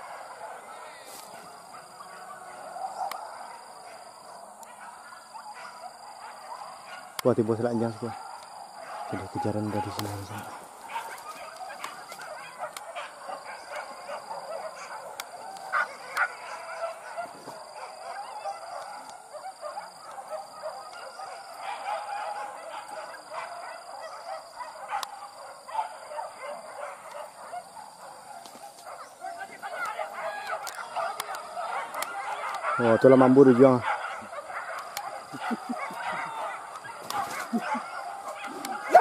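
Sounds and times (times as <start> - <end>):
hunting dogs yelping and baying: 0.0 - 39.0.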